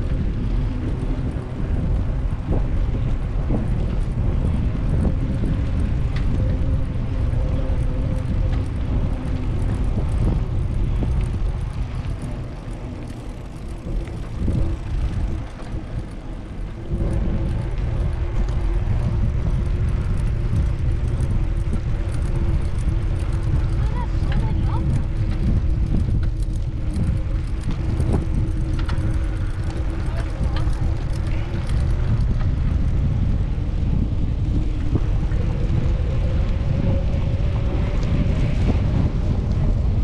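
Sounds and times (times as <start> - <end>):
bicycle tyres rolling on concrete: 0.0 - 40.0
wind rumbling on microphone: 0.0 - 40.0.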